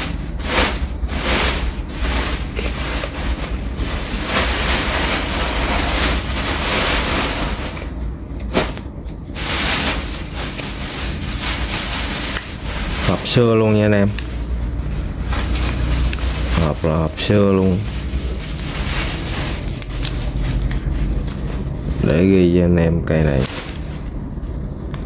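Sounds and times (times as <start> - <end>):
box rustling and rubbing: 0.0 - 22.3.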